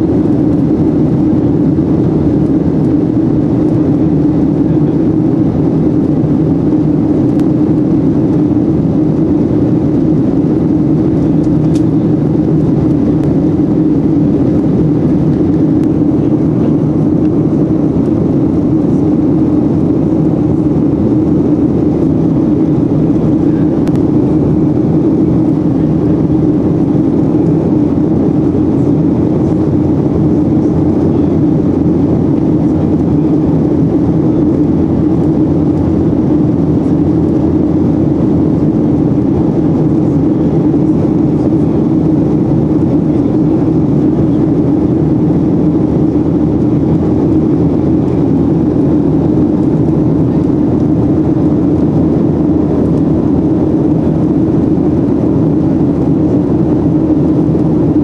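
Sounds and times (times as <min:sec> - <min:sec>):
aircraft cabin engine drone: 0:00.0 - 0:58.0.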